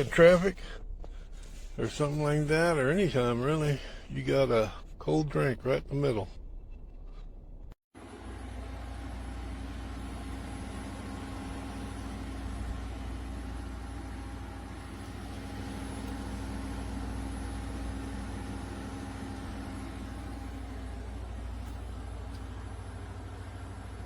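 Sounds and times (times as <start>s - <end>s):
pickup engine rumbling: 0.0s - 24.0s
steady hums: 0.0s - 24.0s.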